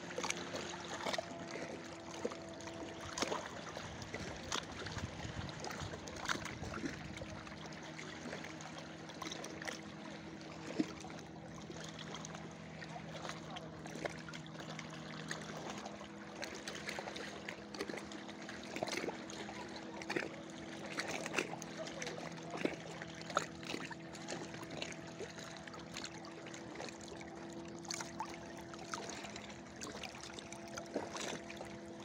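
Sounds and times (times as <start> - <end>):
small waves lapping and splashing: 0.0 - 32.0.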